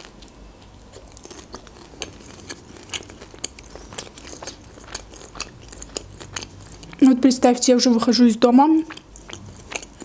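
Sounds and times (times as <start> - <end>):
chewing crunchy pastry: 0.0 - 7.5, 8.4 - 10.0.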